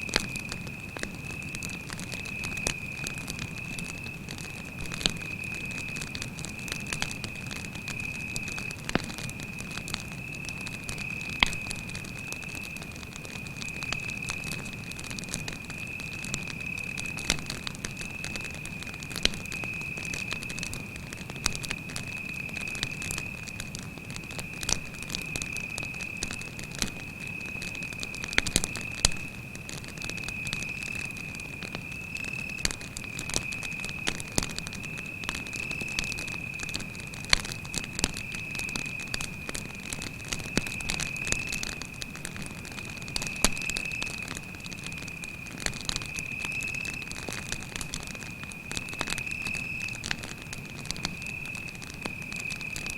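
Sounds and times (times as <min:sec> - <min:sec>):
campfire crackling: 0:00.0 - 0:52.9
cricket trilling: 0:00.0 - 0:52.9.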